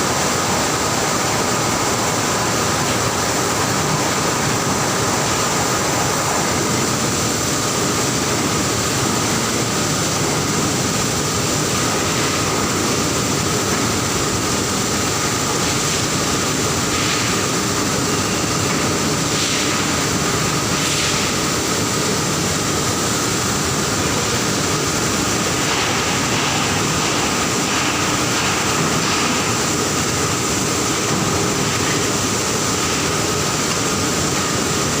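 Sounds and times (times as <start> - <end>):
high machine whine: 0.0 - 35.0
industrial machinery drone: 0.0 - 35.0.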